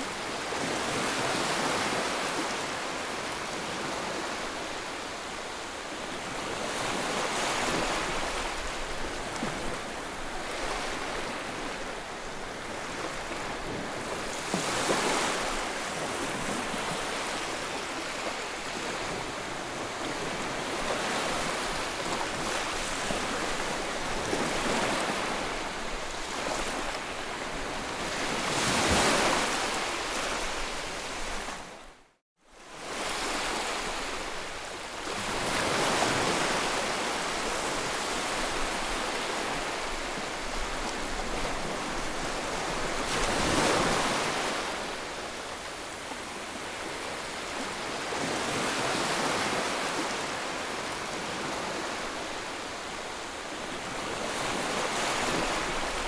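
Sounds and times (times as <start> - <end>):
ocean waves breaking: 6.2 - 31.8, 35.0 - 56.0.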